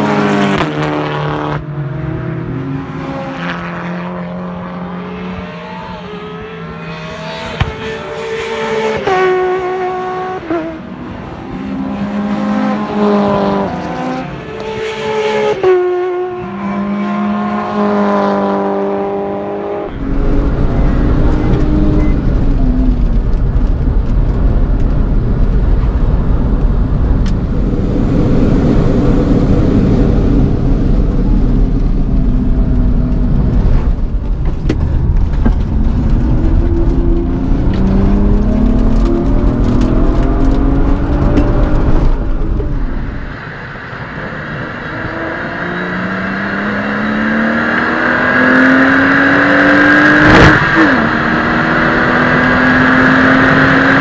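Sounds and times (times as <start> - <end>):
in-cabin engine and road noise: 0.0 - 54.0
race cars passing: 0.0 - 54.0.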